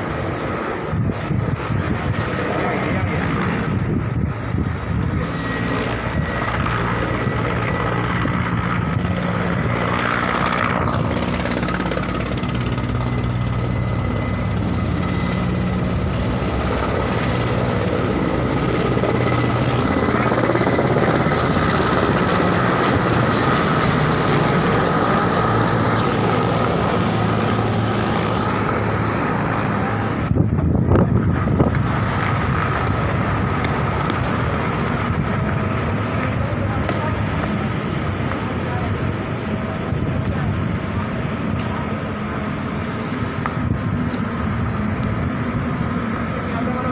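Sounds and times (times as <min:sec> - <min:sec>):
helicopter rotor hum: 0:00.0 - 0:46.9
high turbine whine: 0:00.0 - 0:46.9.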